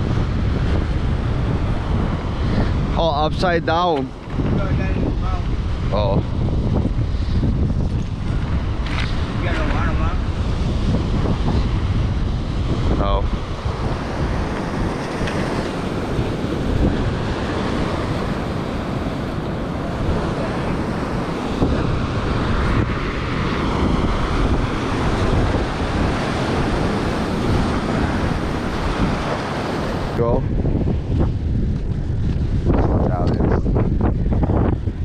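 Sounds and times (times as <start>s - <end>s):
surf washing against rocks: 0.0s - 35.0s
wind buffeting microphone: 0.0s - 35.0s.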